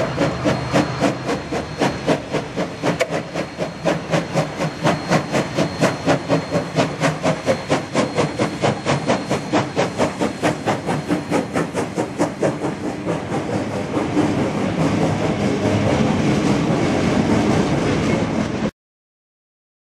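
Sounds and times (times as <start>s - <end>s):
steam locomotive chuffing: 0.0s - 18.7s.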